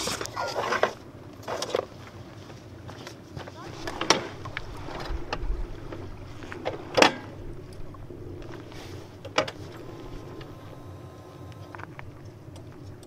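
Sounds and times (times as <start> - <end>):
faint steady tone: 0.0 - 13.0.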